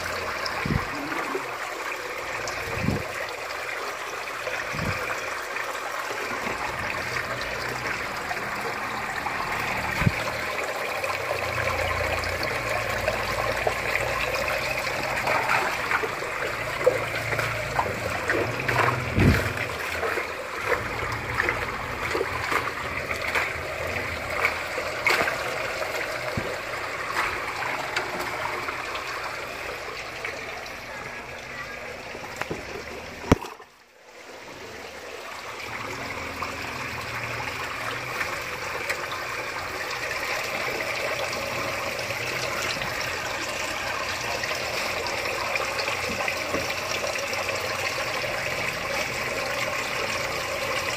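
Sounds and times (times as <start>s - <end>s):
running water: 0.0s - 50.9s
water sloshing and splashing: 0.0s - 50.9s.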